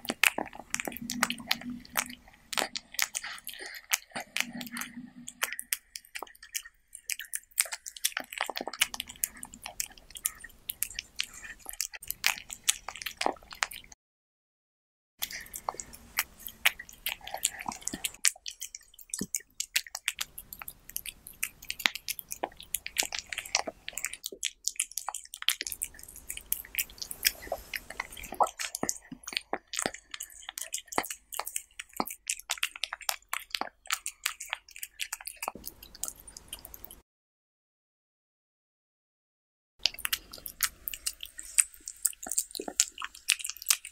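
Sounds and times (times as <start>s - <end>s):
cat chewing and licking: 0.0s - 14.0s, 15.2s - 37.0s, 39.8s - 43.9s.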